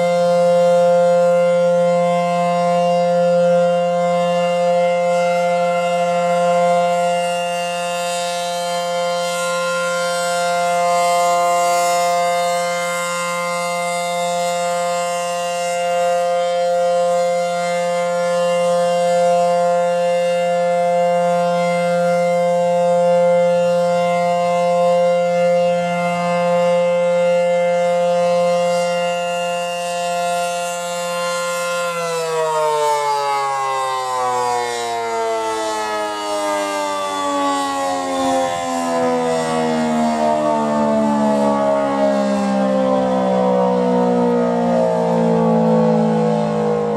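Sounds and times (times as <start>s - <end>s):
rotating siren wailing: 0.0s - 46.9s.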